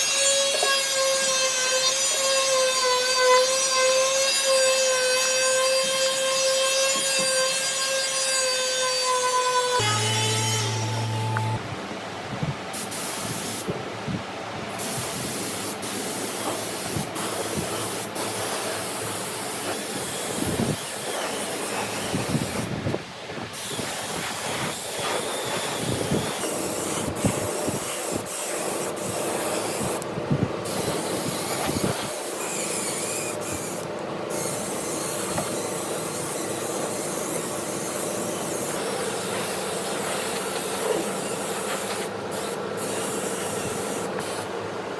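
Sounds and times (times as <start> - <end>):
hissing and rubbing of wood finishing: 4.0 - 11.6, 14.8 - 22.9, 23.5 - 30.0, 30.6 - 44.6.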